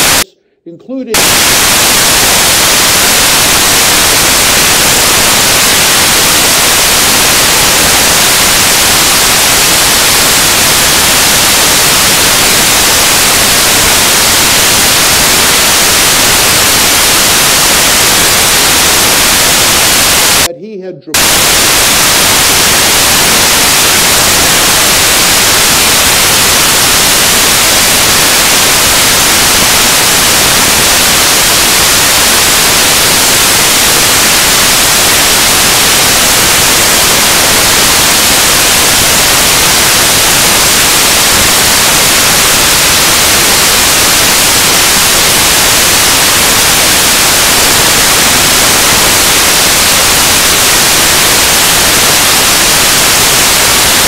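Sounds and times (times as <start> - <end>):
loud static hiss: 0.0 - 0.4, 1.0 - 20.5, 21.1 - 54.0.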